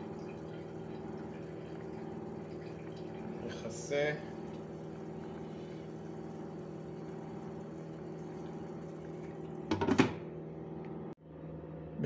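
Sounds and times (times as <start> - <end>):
pot bubbling at the boil: 0.0 - 10.2
steady hum: 0.0 - 12.0.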